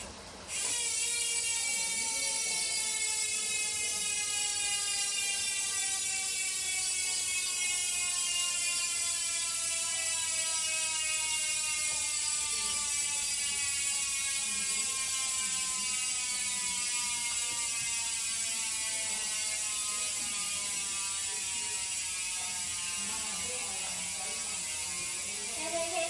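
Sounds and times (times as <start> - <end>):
bicycle hub freewheeling buzz: 0.0 - 26.0.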